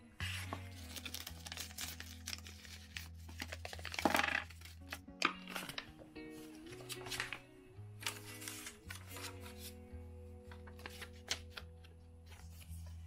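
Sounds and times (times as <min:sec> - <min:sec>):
soft background music: 0:00.0 - 0:13.0
paper envelope crinkling: 0:00.2 - 0:09.8, 0:10.5 - 0:13.0.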